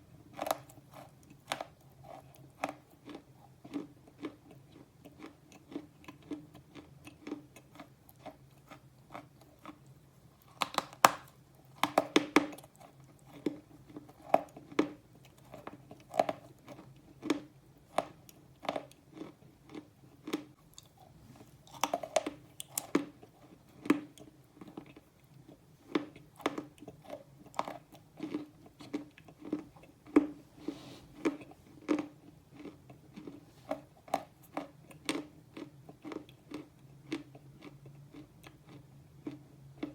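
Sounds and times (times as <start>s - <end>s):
crunchy chewing: 0.2s - 39.9s.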